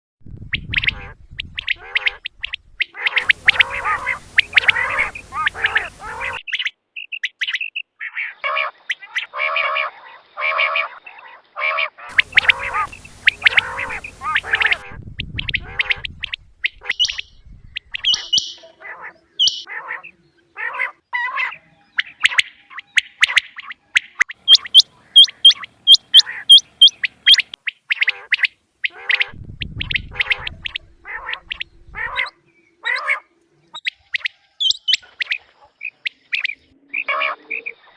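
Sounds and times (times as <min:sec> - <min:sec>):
quail calling: 0:00.5 - 0:37.9.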